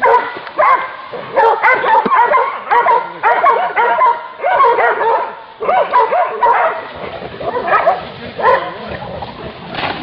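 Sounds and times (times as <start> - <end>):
dogs barking and yelping: 0.0 - 9.6.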